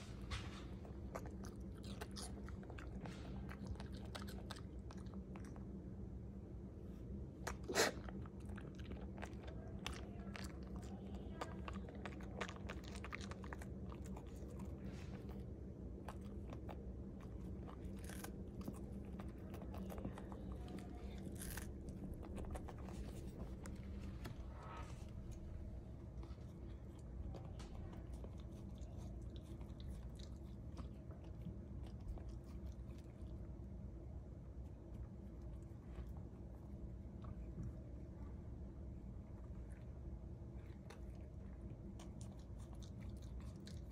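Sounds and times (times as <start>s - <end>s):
steady low hum: 0.0s - 43.9s
dog crunching bell pepper: 0.1s - 6.0s, 6.9s - 33.6s, 40.6s - 43.9s.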